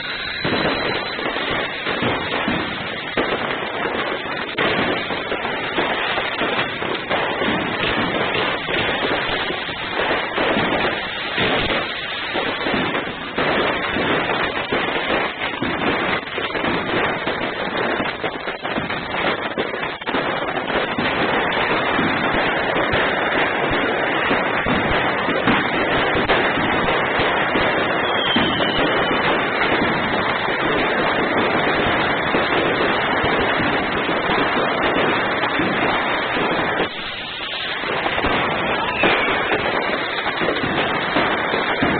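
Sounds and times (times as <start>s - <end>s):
crackling glitter fireworks: 0.0s - 41.9s
fireworks bangs and pops: 0.0s - 41.9s.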